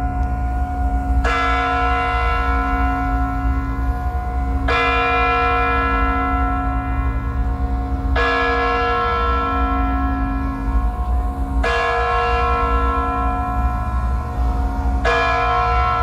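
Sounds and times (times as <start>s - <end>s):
large clock bell striking: 0.0s - 16.0s.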